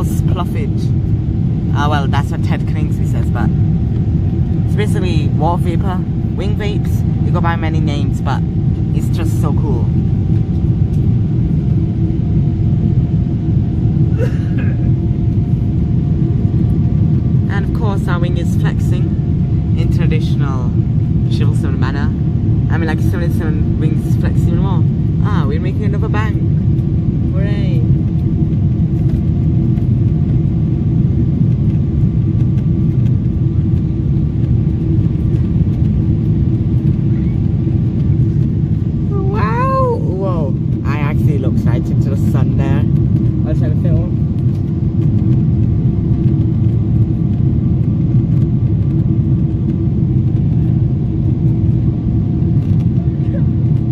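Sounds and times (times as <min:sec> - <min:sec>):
airplane cabin engine rumble: 0:00.0 - 0:53.9
steady hum: 0:00.0 - 0:53.9.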